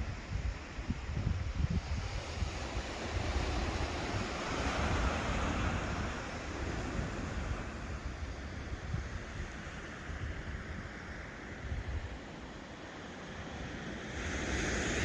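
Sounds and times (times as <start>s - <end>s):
wind gusting on microphone: 0.0s - 15.0s.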